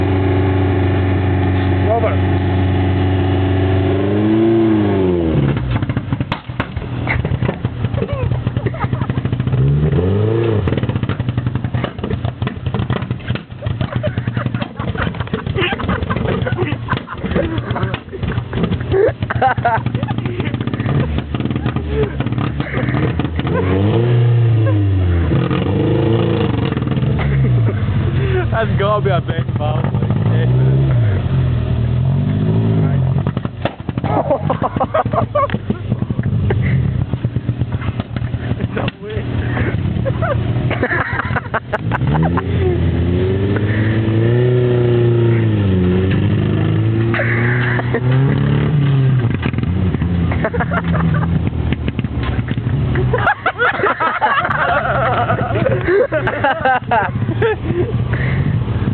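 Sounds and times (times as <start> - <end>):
car engine revving rough: 0.0 - 58.9
engine pops and crackles: 4.6 - 31.2, 32.2 - 42.7, 43.4 - 58.9.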